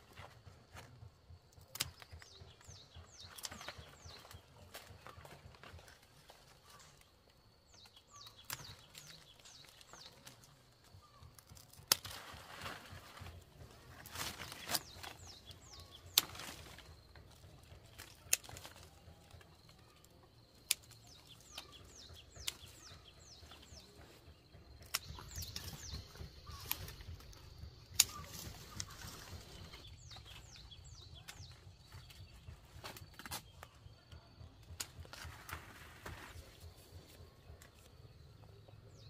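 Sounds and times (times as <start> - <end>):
small birds chirping: 0.1 - 39.0.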